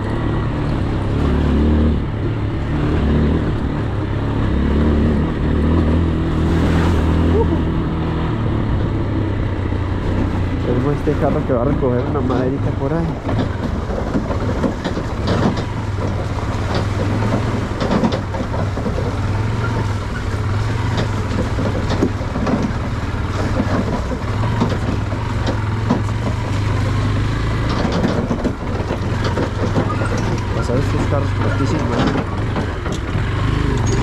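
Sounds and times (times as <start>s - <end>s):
motorcycle knocking and rattling: 0.0s - 6.3s, 7.7s - 34.0s
motorcycle engine running: 0.0s - 34.0s.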